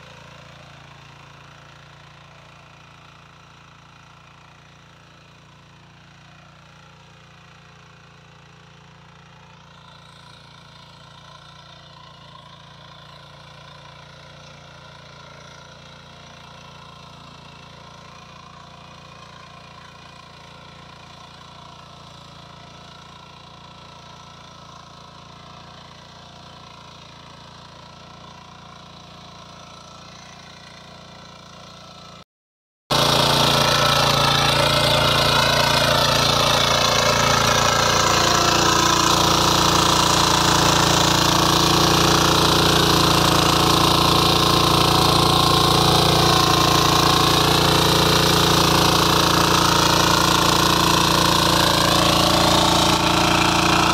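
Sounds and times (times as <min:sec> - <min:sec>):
power weeder engine running: 0:00.0 - 0:32.2, 0:32.9 - 0:53.9.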